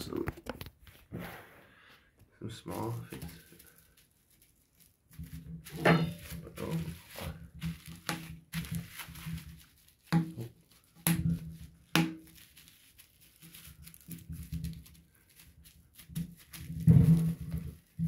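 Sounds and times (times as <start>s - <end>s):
bubble wrap crinkling: 2.4s - 18.0s
bubble wrap popping: 2.5s - 18.0s.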